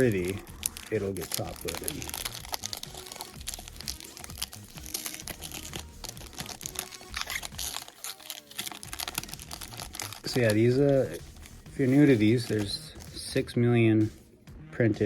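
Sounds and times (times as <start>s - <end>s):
plastic sleeves and foil rustling: 0.0s - 13.5s.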